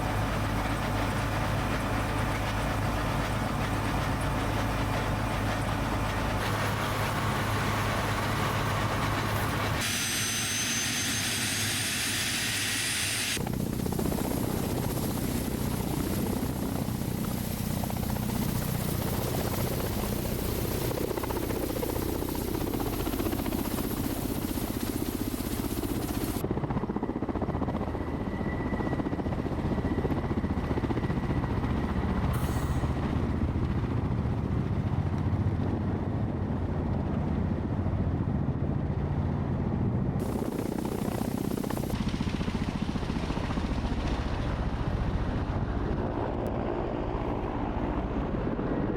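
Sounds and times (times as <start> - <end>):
helicopter engine and rotor drone: 0.0 - 48.9.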